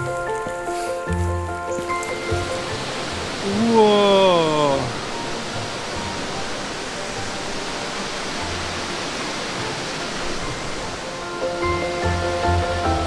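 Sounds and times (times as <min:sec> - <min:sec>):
background music: 0:00.0 - 0:13.0
flowing water rushing: 0:00.0 - 0:13.0.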